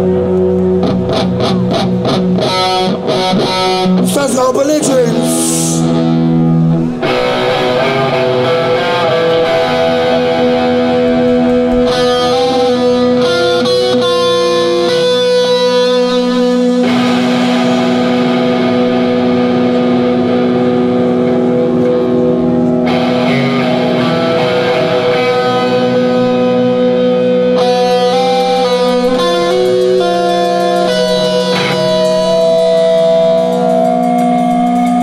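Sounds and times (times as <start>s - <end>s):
distorted electric guitar: 0.0s - 35.0s
live rock band music: 0.0s - 35.0s.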